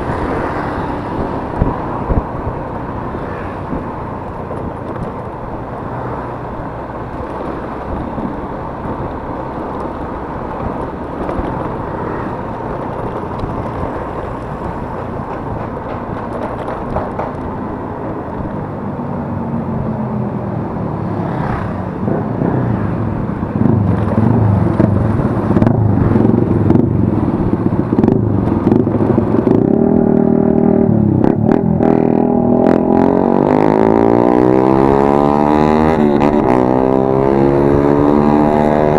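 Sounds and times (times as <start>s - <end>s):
scooter engine running: 0.0s - 38.9s
wind noise on microphone: 0.0s - 38.9s.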